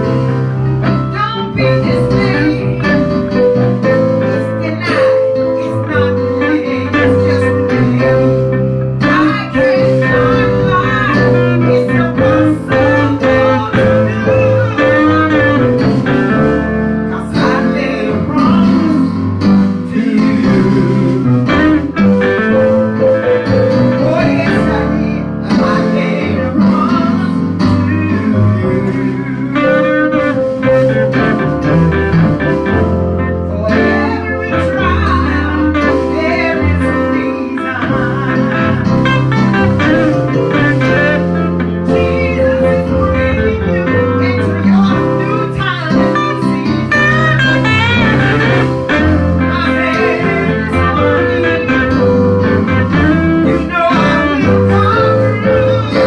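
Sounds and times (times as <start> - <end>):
bluesy gospel music with guitar: 0.0 - 56.0
low bass notes: 0.0 - 56.0.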